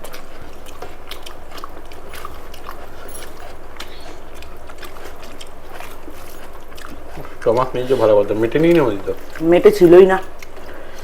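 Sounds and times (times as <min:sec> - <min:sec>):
chewing and mouth smacks: 0:00.0 - 0:11.0
steady low hum: 0:00.0 - 0:11.0.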